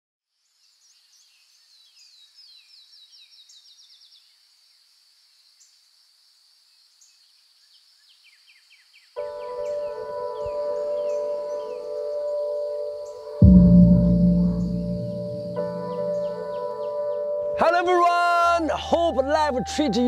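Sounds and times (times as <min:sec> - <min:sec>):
faint birdsong trills and chirps: 0:00.3 - 0:17.7.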